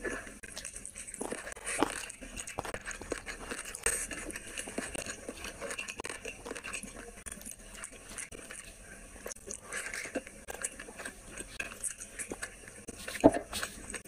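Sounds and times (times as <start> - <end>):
chewing and wet mouth clicks: 0.4 - 14.0.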